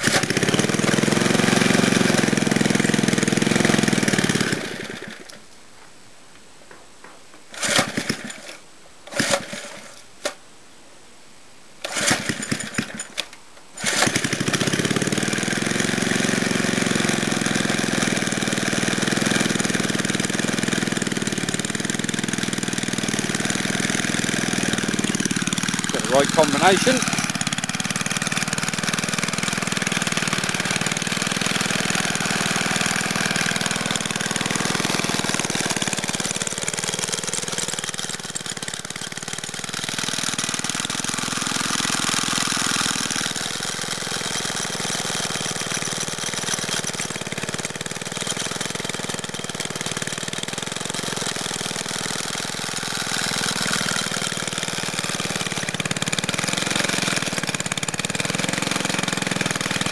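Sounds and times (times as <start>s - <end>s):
small petrol engine running: 0.0s - 5.4s, 7.5s - 10.0s, 11.8s - 13.2s, 13.8s - 59.9s.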